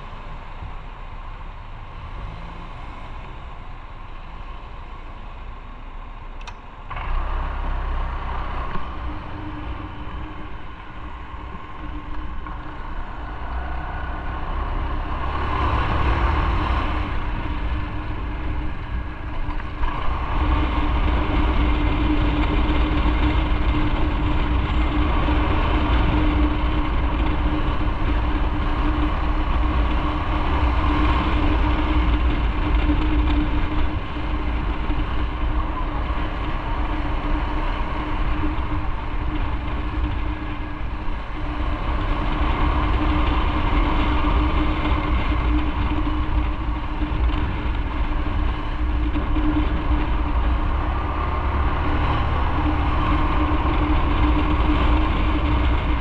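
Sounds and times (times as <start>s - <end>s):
motorcycle engine: 1.2s - 56.0s
rushing air: 8.1s - 56.0s.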